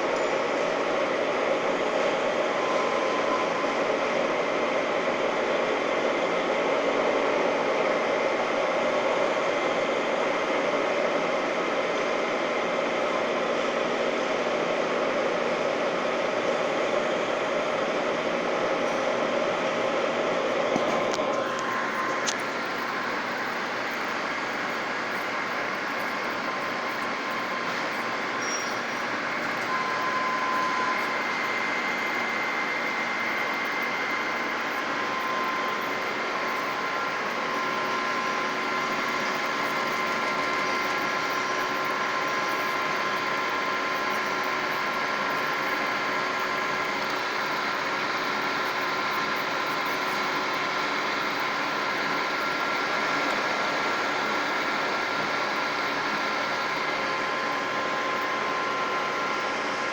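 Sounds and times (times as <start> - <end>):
faint high whining tones: 0.0 - 59.9
metal lathe running: 0.1 - 59.9.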